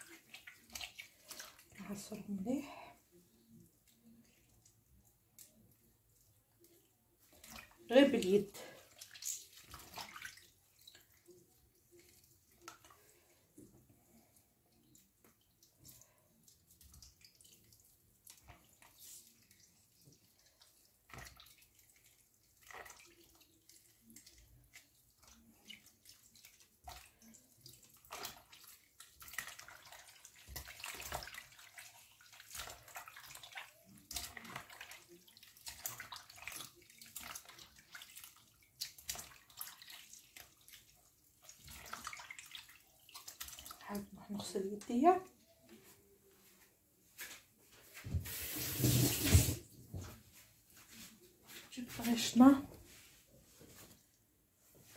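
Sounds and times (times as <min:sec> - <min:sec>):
water splashing in a bowl: 0:00.0 - 0:45.7, 0:48.2 - 0:50.1.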